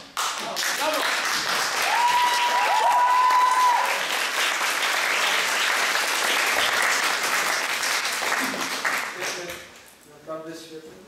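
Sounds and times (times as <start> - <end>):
audience applauding: 0.2 - 9.6.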